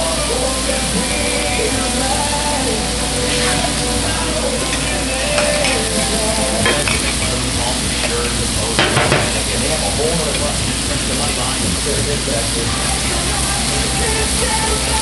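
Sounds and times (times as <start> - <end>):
burger patties sizzling on griddle: 0.0 - 15.0.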